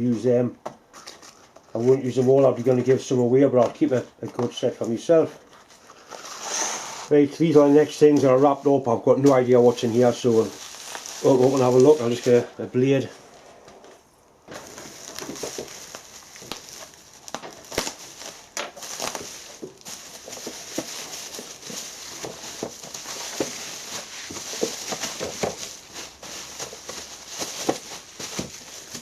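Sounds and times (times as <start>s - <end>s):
wrapping crinkling and crackling: 0.8s - 29.0s.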